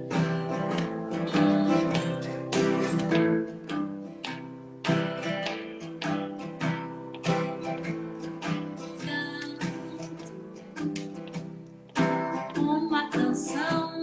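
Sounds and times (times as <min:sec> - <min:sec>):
guitar strumming chords: 0:00.0 - 0:14.0.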